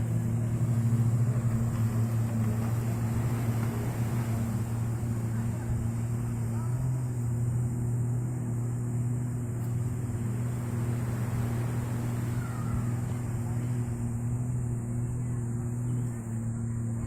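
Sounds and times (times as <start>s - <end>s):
jet ski engine humming: 0.0s - 17.0s.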